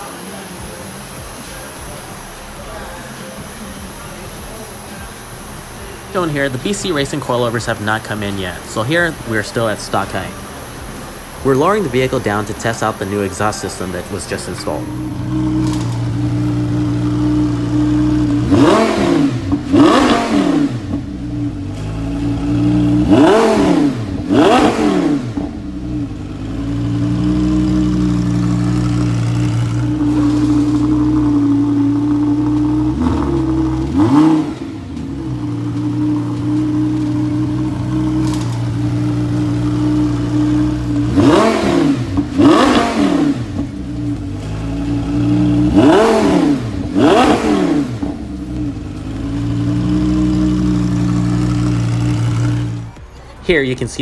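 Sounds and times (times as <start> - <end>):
sports car engine idling and revving: 0.0 - 54.0.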